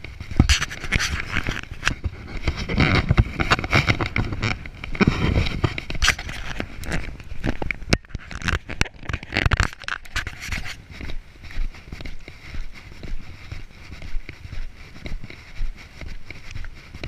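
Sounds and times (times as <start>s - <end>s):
footsteps crunching on gravel: 0.0s - 17.0s
wind rumble on microphone: 0.0s - 17.0s.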